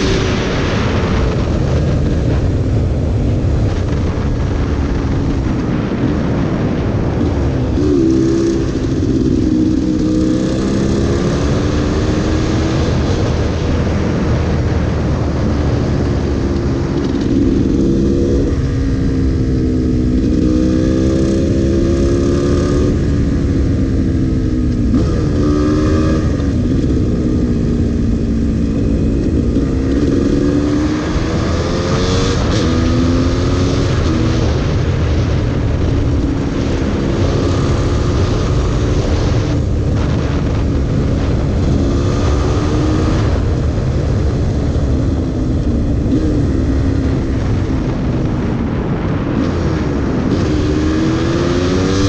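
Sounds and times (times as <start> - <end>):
motorcycle engine revving: 0.0 - 52.0
wind noise on microphone: 0.0 - 52.0.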